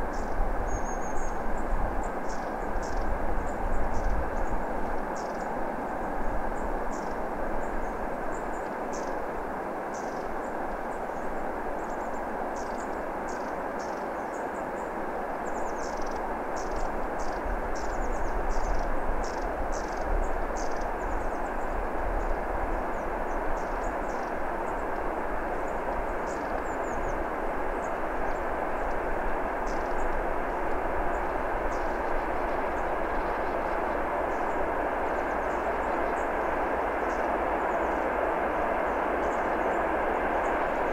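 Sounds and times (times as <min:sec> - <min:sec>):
distant diesel locomotive drone: 0:00.0 - 0:40.9.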